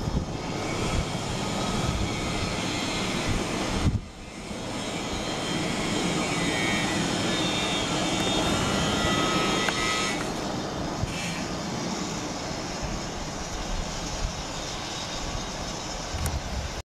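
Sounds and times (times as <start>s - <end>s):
helicopter rotor drone: 0.0s - 16.8s
turbine whine: 0.0s - 16.8s.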